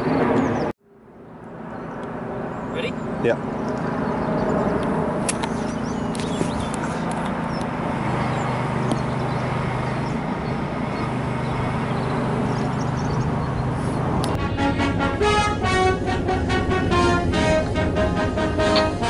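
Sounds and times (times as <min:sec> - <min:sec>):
low hum: 0:00.2 - 0:19.0.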